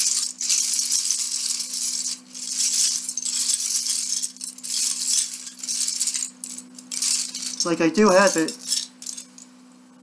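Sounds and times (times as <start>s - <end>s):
plastic bricks clattering: 0.0s - 9.4s.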